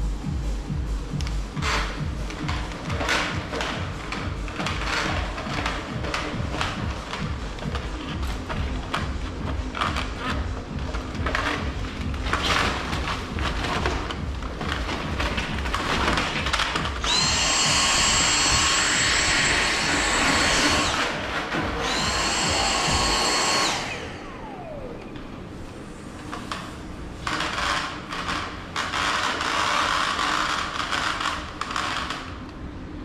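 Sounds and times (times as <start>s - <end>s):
stick vacuum cleaner whine: 1.1s - 32.6s
vacuum motor winding down: 1.6s - 32.4s.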